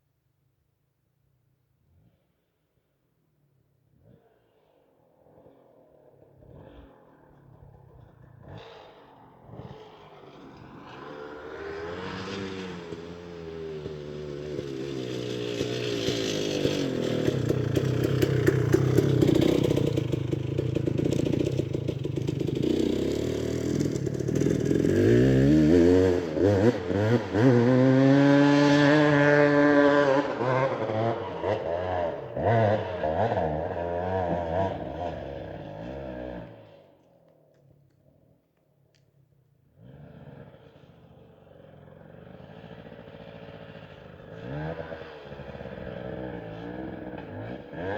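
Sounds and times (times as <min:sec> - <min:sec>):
motorcycle engine revving hard: 0:06.4 - 0:36.8, 0:39.8 - 0:47.9.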